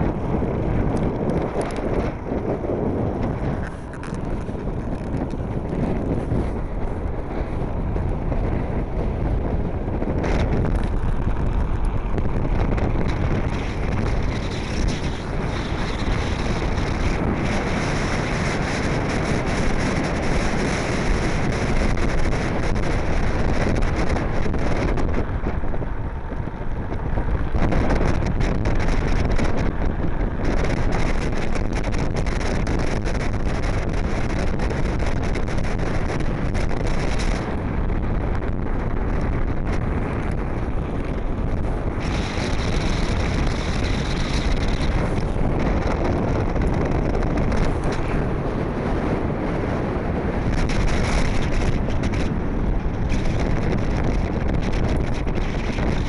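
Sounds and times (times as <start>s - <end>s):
wheels rumbling on hard ground: 0.0s - 56.0s
wind buffeting microphone: 0.0s - 56.0s.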